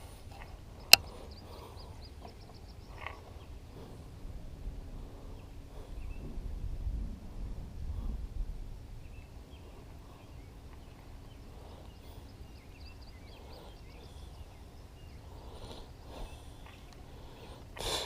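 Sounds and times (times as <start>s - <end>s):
birds chirping: 0.0s - 4.1s, 5.1s - 6.8s, 8.9s - 18.0s
wind rumble: 0.0s - 18.0s.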